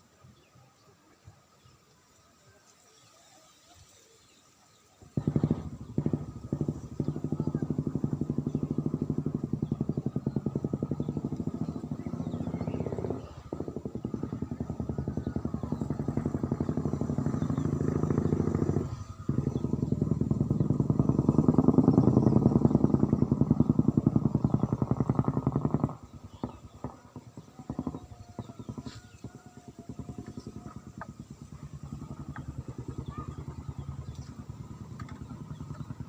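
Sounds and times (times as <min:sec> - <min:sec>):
motorcycle engine running: 0:05.0 - 0:36.0.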